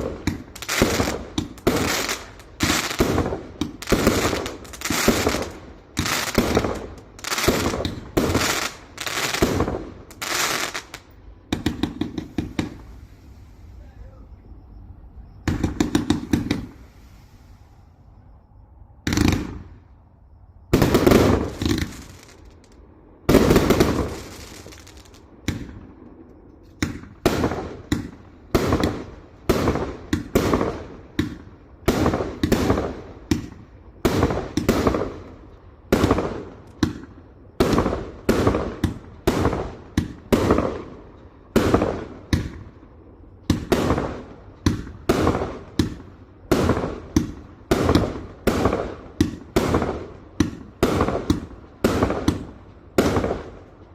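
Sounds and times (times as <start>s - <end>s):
fireworks firing rapidly: 0.0s - 13.0s, 15.4s - 17.0s, 19.1s - 19.7s, 20.7s - 22.7s, 23.3s - 25.8s, 26.8s - 35.3s, 35.9s - 42.7s, 43.5s - 53.7s
loud firework bursts: 0.0s - 14.3s, 15.4s - 18.2s, 19.0s - 20.0s, 20.6s - 26.1s, 26.7s - 53.8s.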